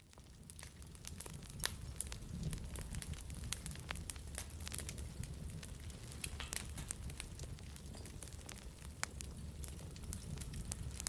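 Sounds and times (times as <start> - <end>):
low flame noise: 0.0 - 11.0
wood fire crackling and popping: 0.0 - 11.0.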